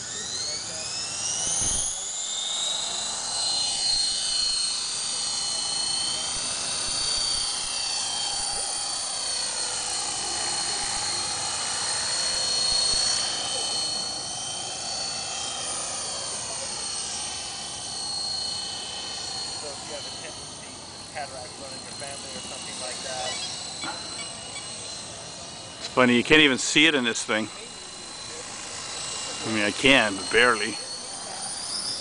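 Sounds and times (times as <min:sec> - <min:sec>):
high motor whine: 0:00.0 - 0:32.0
rotor blades whooshing: 0:00.9 - 0:32.0.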